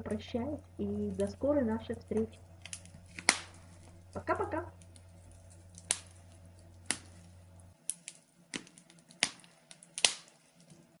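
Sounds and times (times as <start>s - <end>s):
faint low hum: 0.0s - 11.0s
wood fire crackling and popping: 0.0s - 11.0s.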